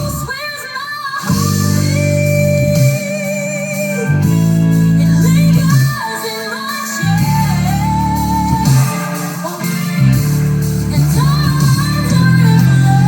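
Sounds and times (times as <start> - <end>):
guitar and bass chords: 0.0 - 0.4, 1.3 - 6.2, 7.0 - 13.0
person singing: 0.0 - 13.0.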